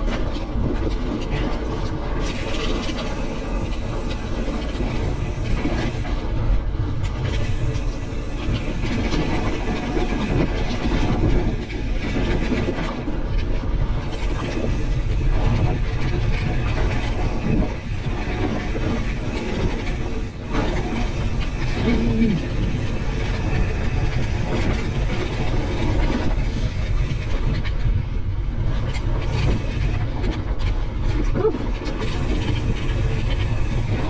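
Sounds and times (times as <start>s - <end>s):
wind rushing on microphone: 0.0s - 34.0s.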